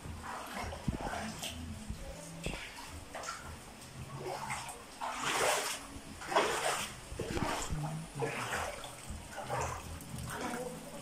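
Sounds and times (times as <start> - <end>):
floodwater splashing and sloshing: 0.0 - 11.0.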